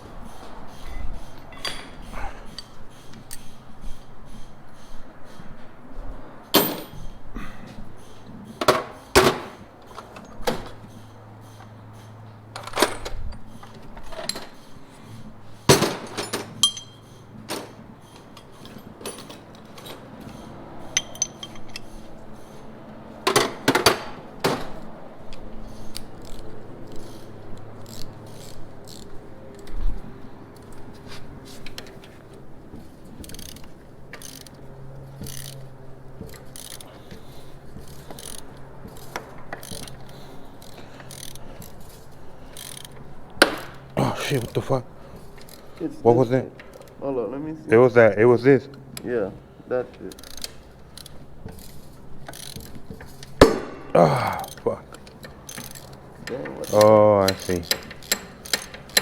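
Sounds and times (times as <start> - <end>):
hand tools clicking on metal: 0.2 - 5.6, 6.4 - 47.0, 49.9 - 59.0.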